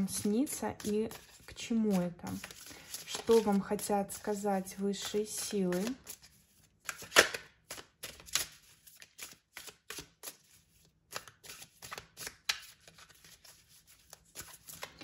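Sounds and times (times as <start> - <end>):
cards being shuffled: 0.0 - 4.4, 5.0 - 15.0.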